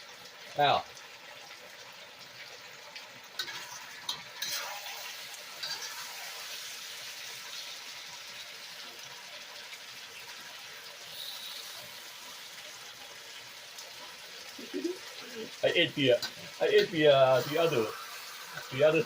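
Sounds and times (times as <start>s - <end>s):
sizzling hiss: 0.0s - 19.0s.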